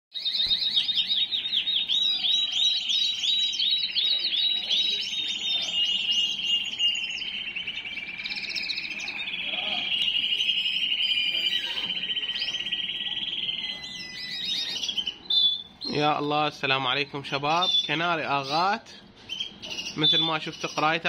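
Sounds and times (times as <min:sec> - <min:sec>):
canary singing trills: 0:00.1 - 0:21.0.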